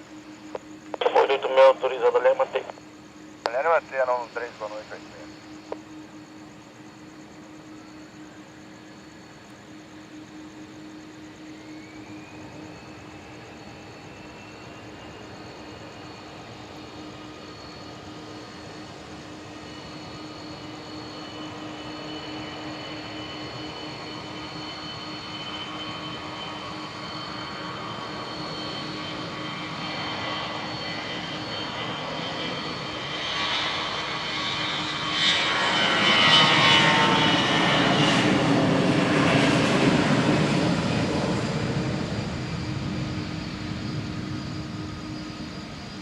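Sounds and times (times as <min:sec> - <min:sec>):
jet airliner engine roar: 0:00.0 - 0:46.0
steady hum and whine: 0:00.0 - 0:46.0.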